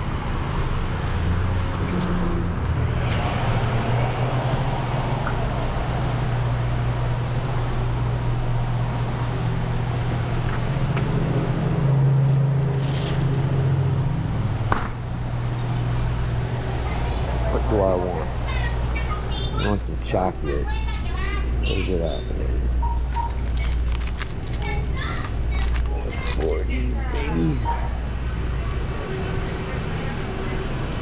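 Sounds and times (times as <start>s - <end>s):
refrigerator hum: 0.0s - 31.0s.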